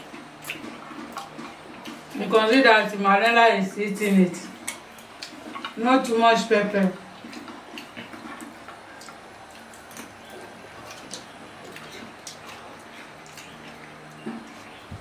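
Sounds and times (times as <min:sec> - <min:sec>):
soft eating sounds: 0:00.0 - 0:15.0.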